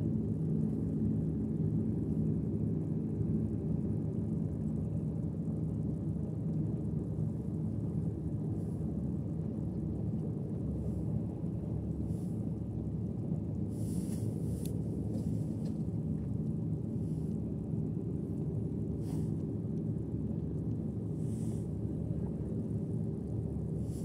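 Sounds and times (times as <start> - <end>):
low seaside rumble: 0.0 - 24.0.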